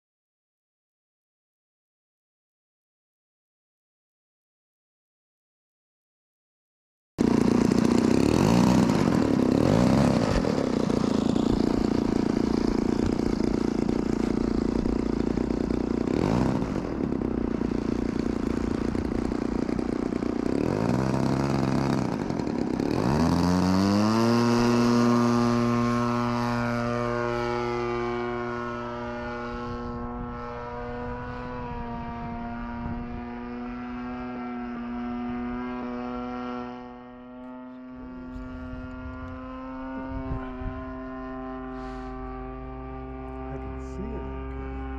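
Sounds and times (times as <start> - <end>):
model airplane motor buzzing: 7.2 - 44.9.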